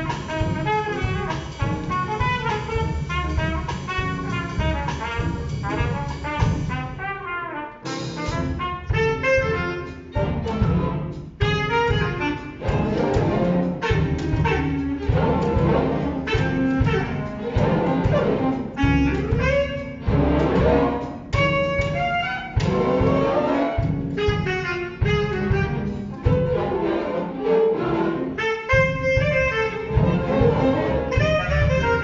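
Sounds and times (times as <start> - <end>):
orchestra playing jazz tune: 0.0 - 32.0.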